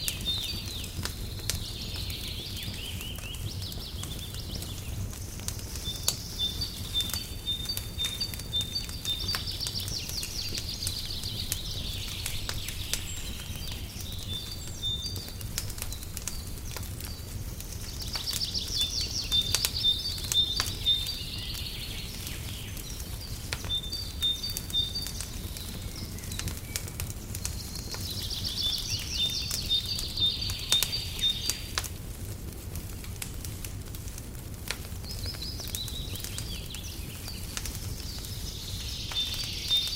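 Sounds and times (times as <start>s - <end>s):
songbird singing: 0.0s - 31.9s, 34.9s - 39.9s
fireplace crackling: 0.0s - 39.9s.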